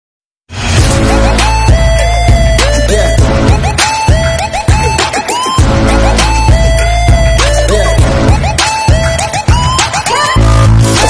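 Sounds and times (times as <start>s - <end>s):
electronic music: 0.6s - 11.0s.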